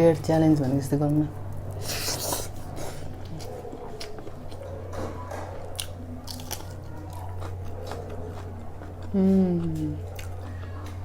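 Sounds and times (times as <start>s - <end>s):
low electrical hum: 0.0s - 11.0s
crunching and chewing food: 1.3s - 11.0s.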